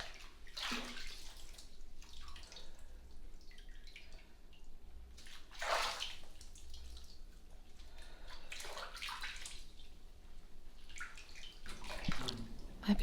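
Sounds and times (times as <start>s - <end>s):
bathwater sloshing in a tub: 0.0s - 13.0s.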